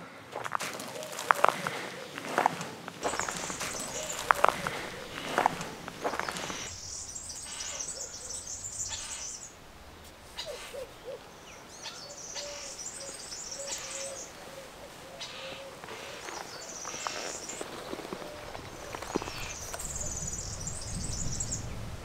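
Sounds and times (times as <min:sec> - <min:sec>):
birds twittering: 0:00.0 - 0:21.9.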